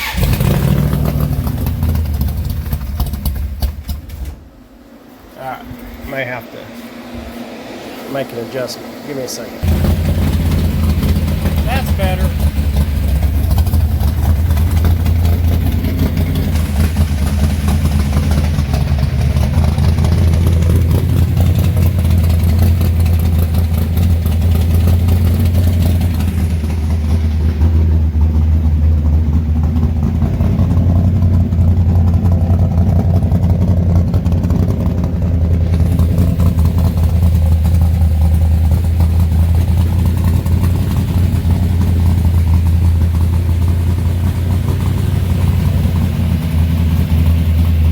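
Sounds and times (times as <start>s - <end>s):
car engine idling: 0.0s - 7.0s, 7.7s - 47.9s.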